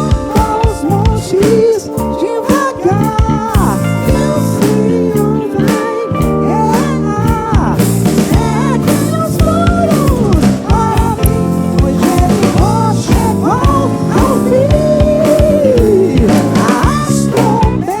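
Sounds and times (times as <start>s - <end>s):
person singing: 0.0s - 18.0s
soul band playing: 0.0s - 18.0s.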